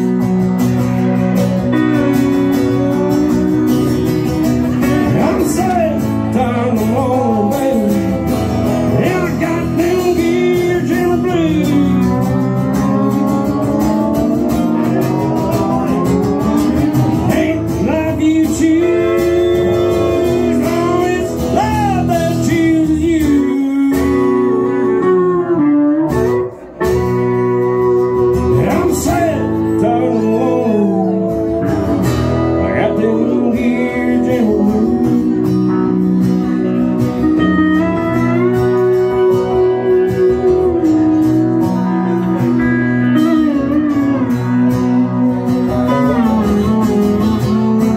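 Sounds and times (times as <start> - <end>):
acoustic guitar: 0.0 - 47.9
pedal steel guitar sliding notes: 0.0 - 47.9.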